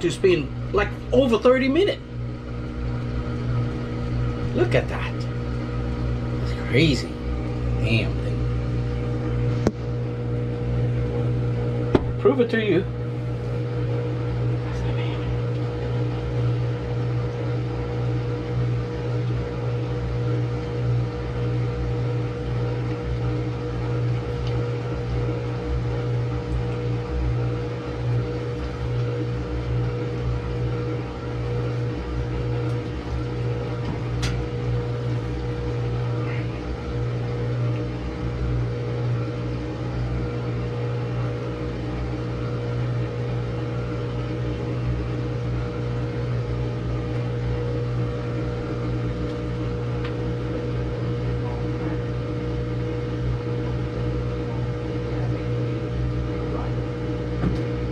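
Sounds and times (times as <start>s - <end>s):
washing machine spinning: 0.0s - 57.9s.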